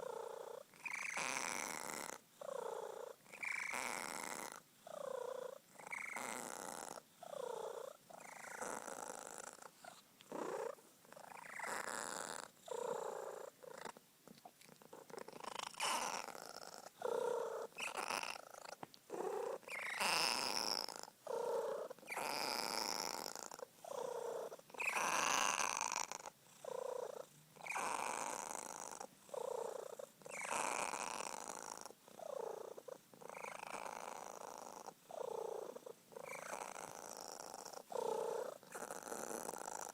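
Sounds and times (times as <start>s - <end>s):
cat purring loudly: 0.0s - 39.9s.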